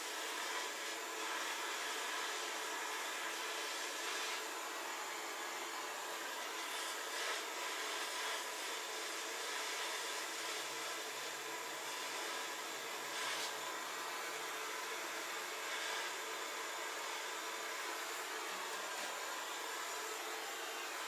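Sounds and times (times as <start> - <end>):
gas torch hissing: 0.0 - 21.0.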